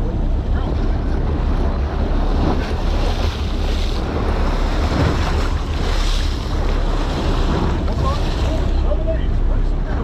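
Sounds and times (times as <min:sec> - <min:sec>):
wind noise on microphone: 0:00.0 - 0:10.0
water splashing against boat hull: 0:00.2 - 0:10.0.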